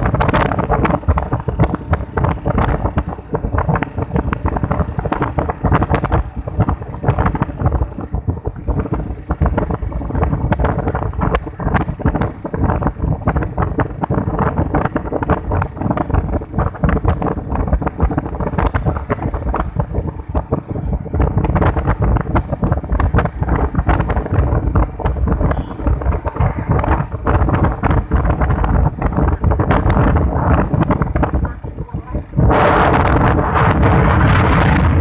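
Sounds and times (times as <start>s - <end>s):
low rumble: 0.0s - 35.0s
wind buffeting microphone: 0.0s - 35.0s.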